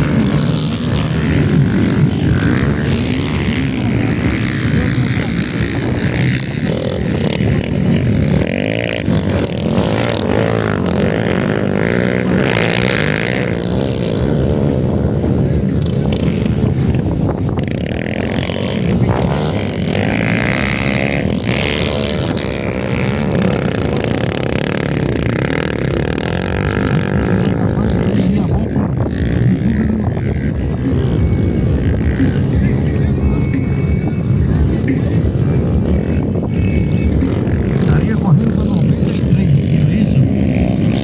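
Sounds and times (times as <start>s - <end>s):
motocross bikes revving: 0.0s - 41.0s.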